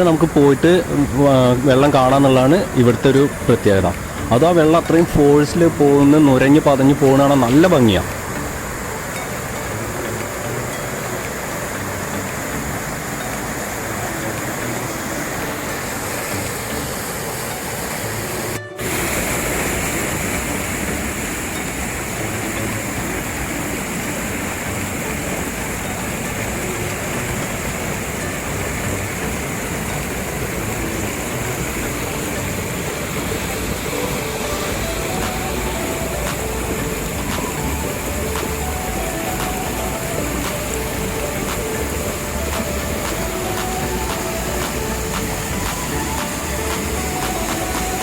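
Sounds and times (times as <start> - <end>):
water rushing over rocks: 0.0 - 48.0.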